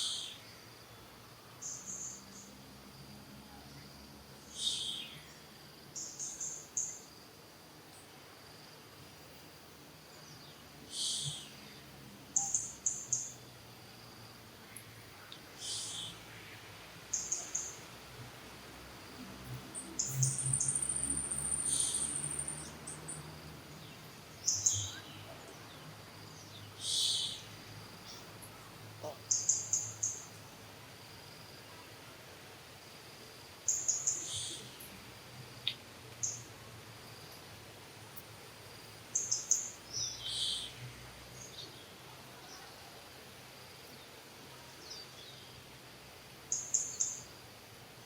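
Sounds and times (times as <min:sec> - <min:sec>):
insects chirping in high bursts: 0:00.0 - 0:41.7, 0:44.8 - 0:48.0
high insect drone: 0:00.0 - 0:48.0.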